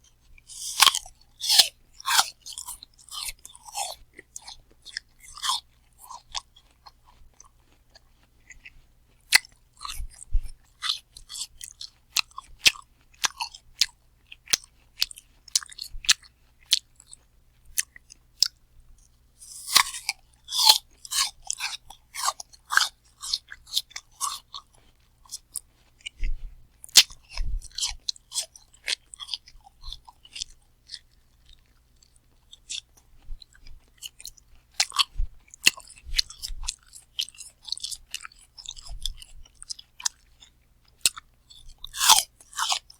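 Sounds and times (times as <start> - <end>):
person chewing crunchy apple: 0.0 - 42.9.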